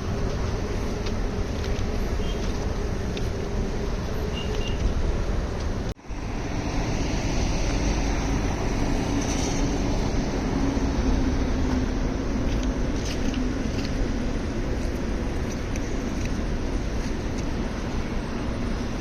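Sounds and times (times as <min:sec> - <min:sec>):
road and wind noise: 0:00.0 - 0:19.0
vehicle engine hum: 0:00.0 - 0:19.0.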